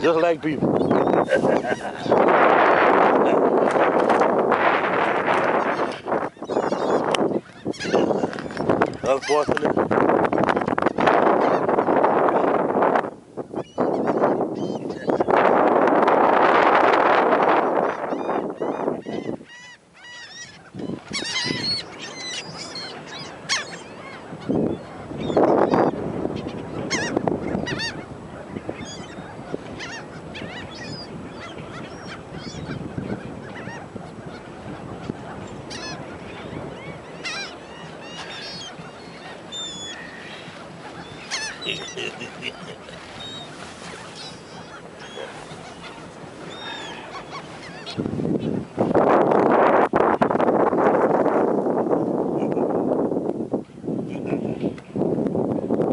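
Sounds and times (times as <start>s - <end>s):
gulls squawking: 0.0s - 12.6s, 13.6s - 49.0s.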